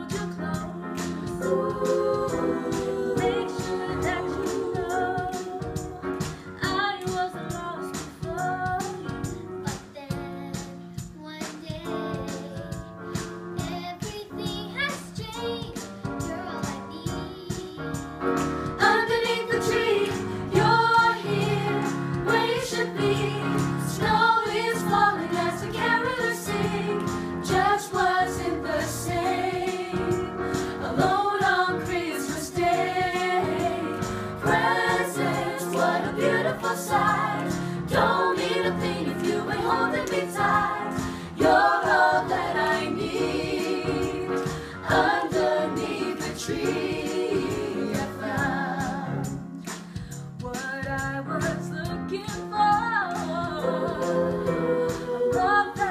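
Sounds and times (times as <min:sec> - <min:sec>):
women and children singing: 0:00.0 - 0:09.3, 0:18.8 - 0:49.2, 0:50.5 - 0:55.9.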